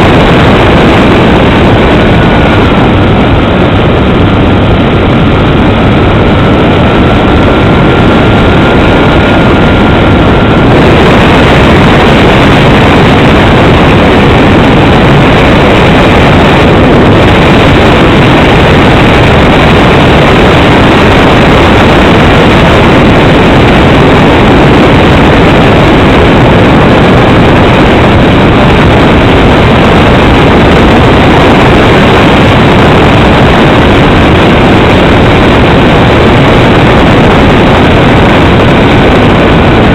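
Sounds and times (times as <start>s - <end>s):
aircraft engines roaring: 0.0s - 39.9s
rushing air: 0.0s - 39.9s
thin steady whine: 0.0s - 39.9s.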